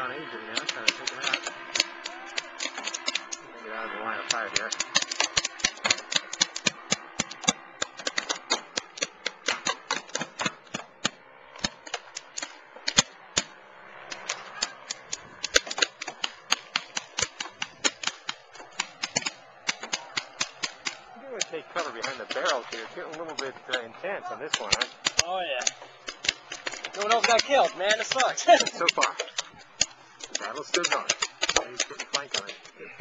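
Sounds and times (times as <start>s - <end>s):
paintball markers firing: 0.5s - 3.4s, 4.3s - 32.8s.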